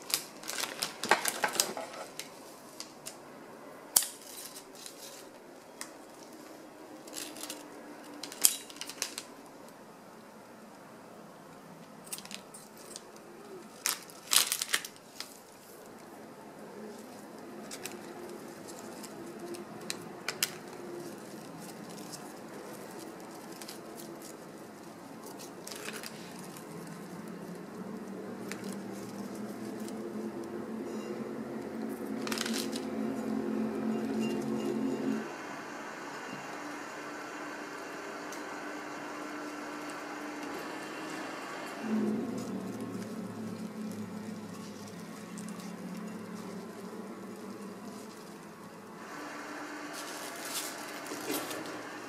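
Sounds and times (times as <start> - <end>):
paper wrapping rustling: 0.0 - 3.2, 4.0 - 9.8, 11.8 - 35.2, 39.3 - 52.0
sharp paper crinkles: 0.0 - 3.2, 4.0 - 9.8, 12.0 - 30.6, 31.8 - 33.5, 39.3 - 52.0.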